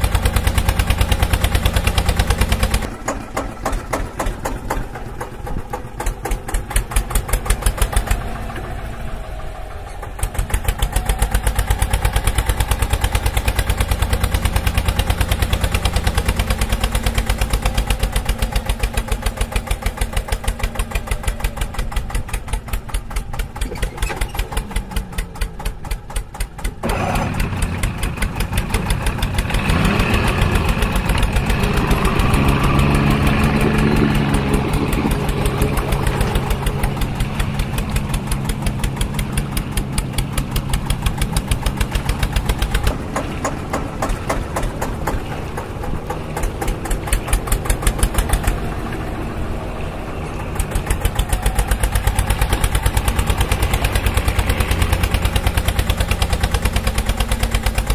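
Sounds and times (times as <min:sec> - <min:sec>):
engine chugging: 0:00.0 - 0:57.9.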